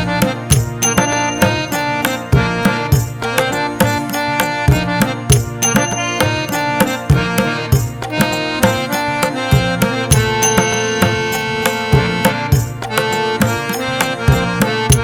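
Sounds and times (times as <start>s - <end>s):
drum strokes: 0.0s - 15.0s
sustained instrumental notes: 0.0s - 15.0s.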